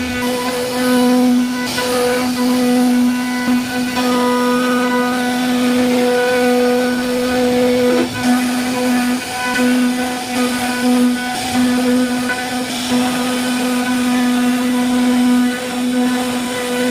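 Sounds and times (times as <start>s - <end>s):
router spindle cutting wood: 0.0s - 16.9s.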